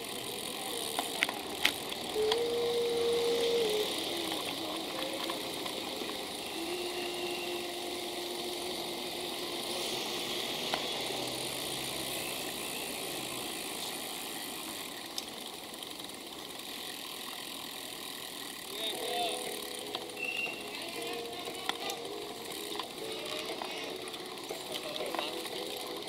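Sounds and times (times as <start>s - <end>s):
motor vehicles humming: 0.0s - 26.0s
wind and road noise hiss: 0.0s - 26.0s.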